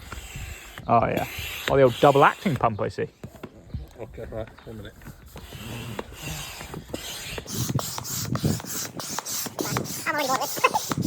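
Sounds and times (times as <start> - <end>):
hand pump strokes: 0.0 - 2.8, 4.7 - 11.0.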